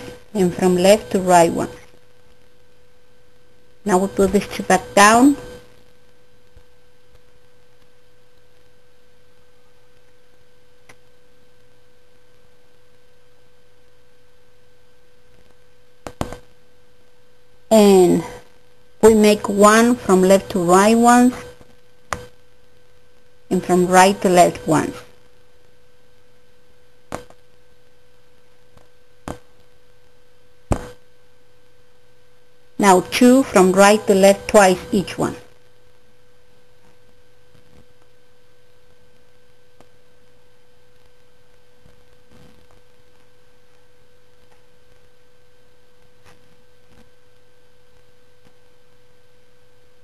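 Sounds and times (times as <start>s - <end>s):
faint electrical tone: 0.0s - 50.0s
high-pitched steady hum: 0.0s - 50.0s.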